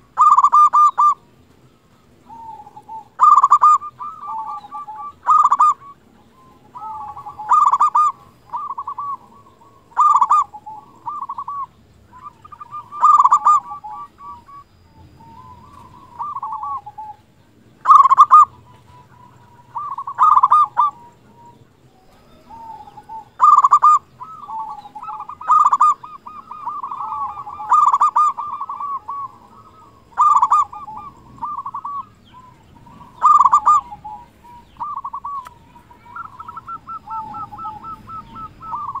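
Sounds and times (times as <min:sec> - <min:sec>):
dove cooing with rolling trill: 0:00.0 - 0:39.0.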